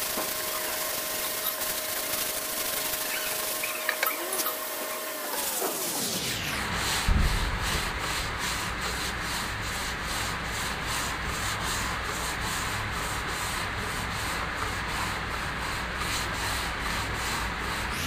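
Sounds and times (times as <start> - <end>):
hand sanding rasp: 0.0 - 18.0.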